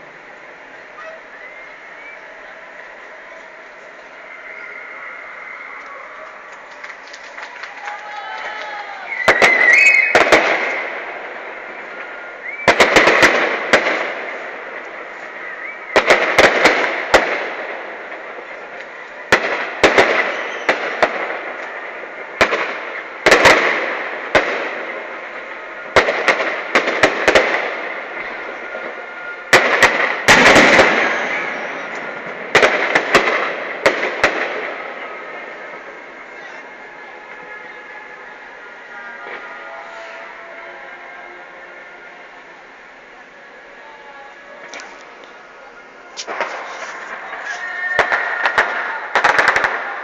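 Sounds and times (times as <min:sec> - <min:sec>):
fireworks bursting with bangs: 0:05.6 - 0:41.7, 0:42.9 - 0:50.0.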